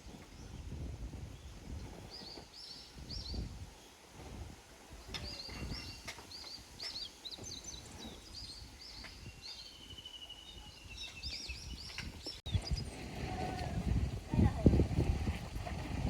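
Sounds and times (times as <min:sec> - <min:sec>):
songbirds chirping: 0:00.0 - 0:13.7
wind on microphone: 0:00.0 - 0:16.0.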